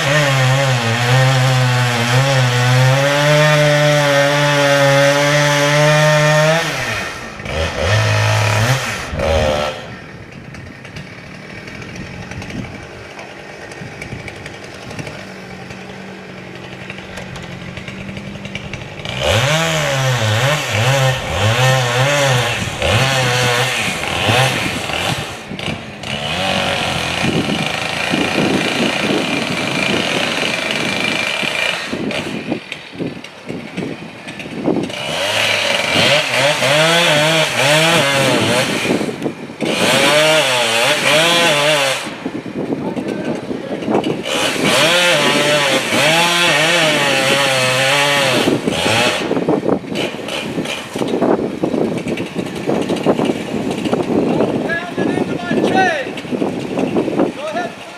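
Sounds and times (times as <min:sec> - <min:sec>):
chainsaw revving and idling: 0:00.0 - 0:57.9.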